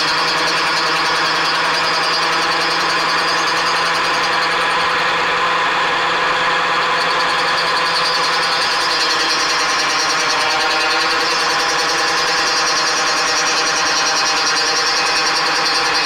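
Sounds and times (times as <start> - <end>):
milling machine cutting metal: 0.0 - 16.0.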